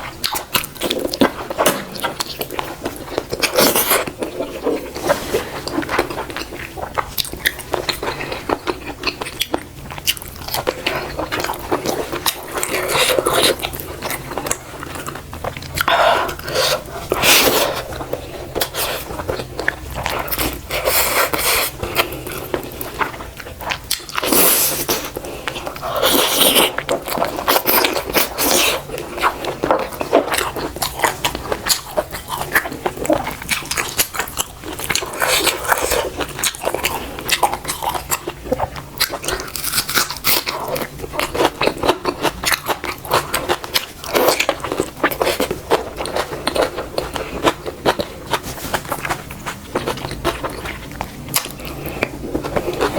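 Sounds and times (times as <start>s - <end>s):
person chewing food: 0.0s - 52.9s.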